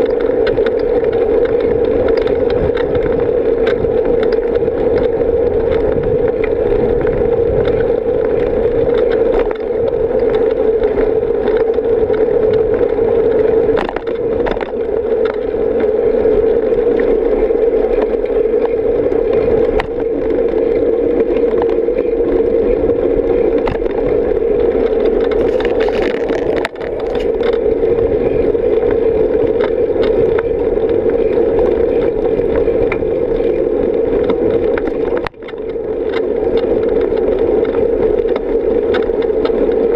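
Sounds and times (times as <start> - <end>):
bicycle small rattles: 0.0 - 39.9
wind and road rushing drone: 0.0 - 39.9.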